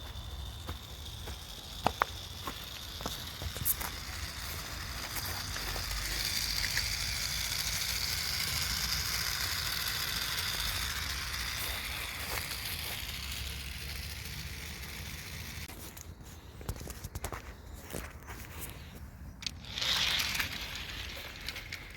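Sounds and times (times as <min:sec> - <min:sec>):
small electric motors whirring: 0:00.0 - 0:21.9.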